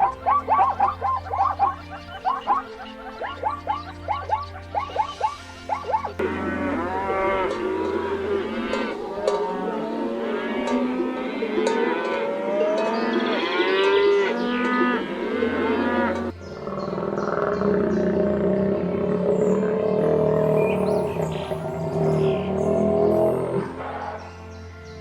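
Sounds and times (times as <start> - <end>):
cattle mooing: 0.0 - 24.2.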